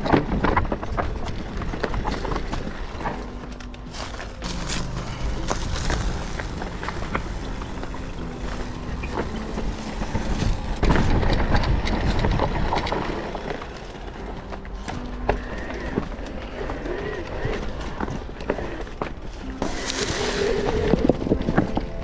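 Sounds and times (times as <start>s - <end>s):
bike rattling over rocks: 0.0s - 22.0s.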